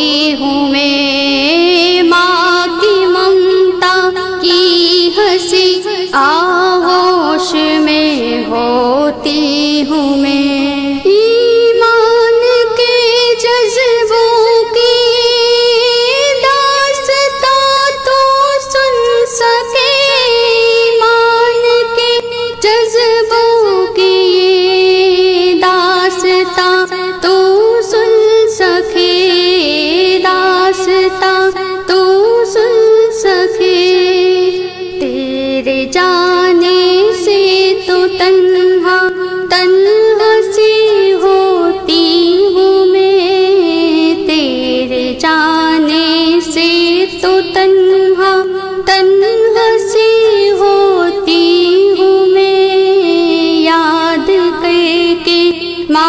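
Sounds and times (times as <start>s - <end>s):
woman singing with vibrato: 0.0s - 56.0s.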